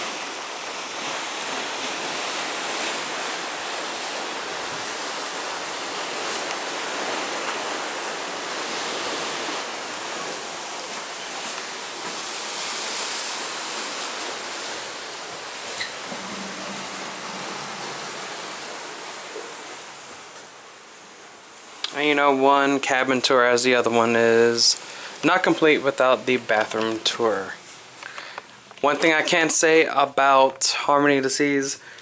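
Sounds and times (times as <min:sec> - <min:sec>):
sea water rushing along hull: 0:00.0 - 0:32.0
wind: 0:00.0 - 0:32.0.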